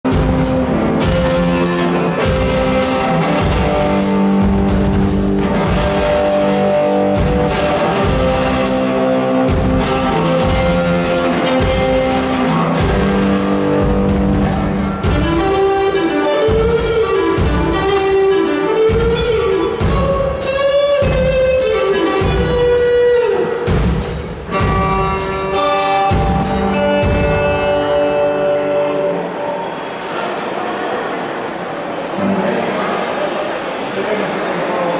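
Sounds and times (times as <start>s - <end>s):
live rock band playing: 0.0s - 30.0s
electric guitar lead with bends: 0.1s - 30.0s.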